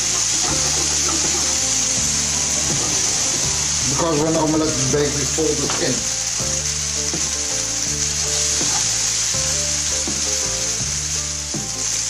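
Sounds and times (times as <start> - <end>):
background music of low notes: 0.0 - 12.0
vegetables sizzling in a pan: 0.0 - 12.0.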